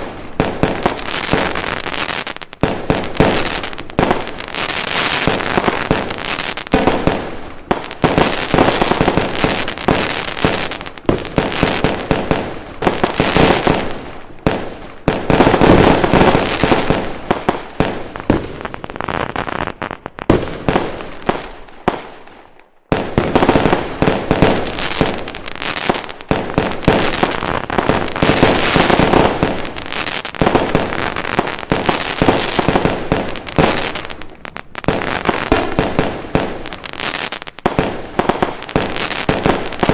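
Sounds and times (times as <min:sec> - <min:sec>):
firecracker bangs and crackling: 0:00.0 - 0:39.9.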